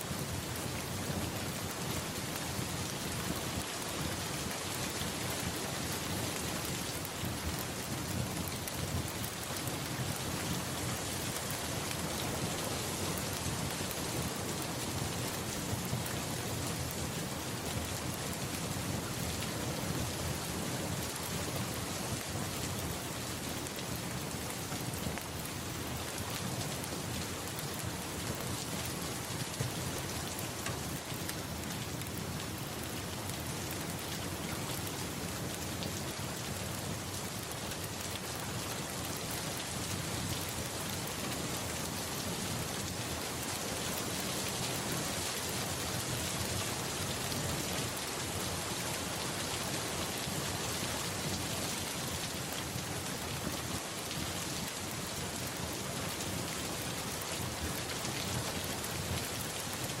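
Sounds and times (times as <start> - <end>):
rain pattering: 0.1 - 60.0.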